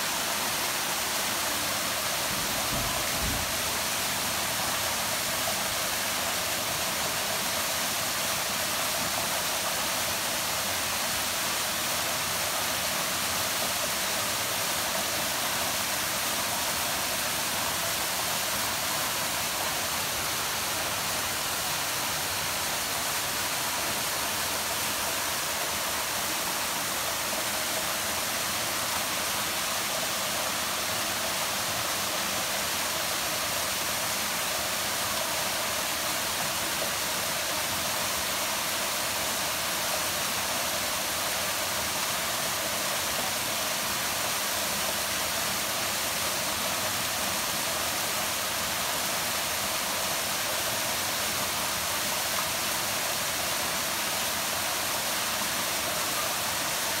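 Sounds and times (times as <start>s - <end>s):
waterfall pouring into pool: 0.0s - 57.0s.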